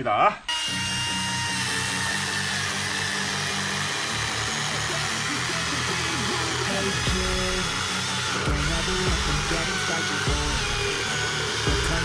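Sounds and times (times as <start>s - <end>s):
battery chainsaw cutting log: 0.5s - 12.0s
background music: 0.6s - 12.0s.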